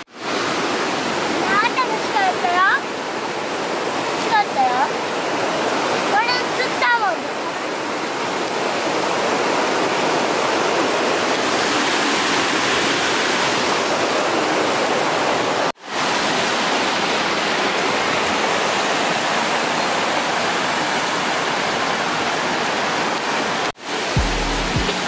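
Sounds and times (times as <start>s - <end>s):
river rushing over boulders: 0.0s - 25.0s.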